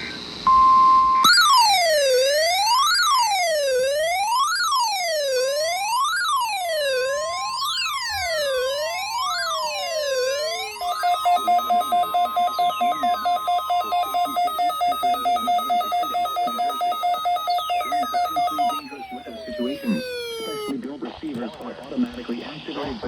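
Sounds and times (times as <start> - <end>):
electronic siren sweeping: 1.2 - 20.7
rapid two-note pulsing alarm: 1.3 - 20.7
steady high tone: 1.3 - 20.7.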